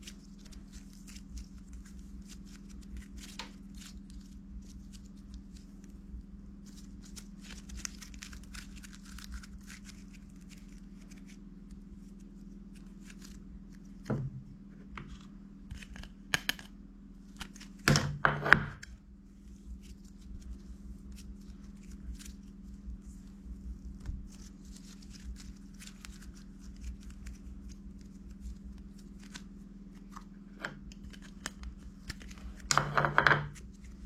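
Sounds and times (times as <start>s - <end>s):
light rustling and crinkling: 0.0s - 16.2s, 18.8s - 32.8s, 33.4s - 34.0s
steady low hum: 0.0s - 34.0s.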